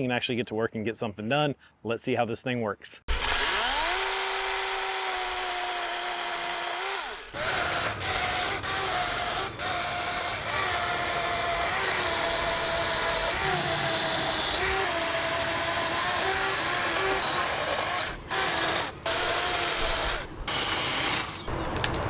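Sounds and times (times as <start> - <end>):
electric chainsaw whine: 3.1 - 21.9
chainsaw cutting wood: 3.1 - 22.0.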